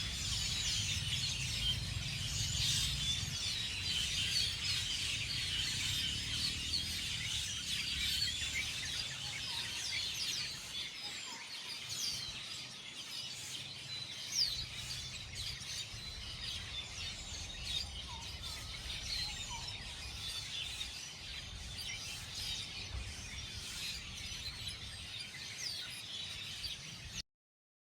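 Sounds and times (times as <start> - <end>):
small birds chirping: 0.0 - 27.2.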